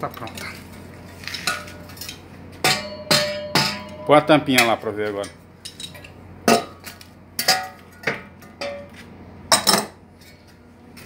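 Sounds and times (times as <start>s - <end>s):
metallic clanks of muffler parts: 1.2s - 10.6s.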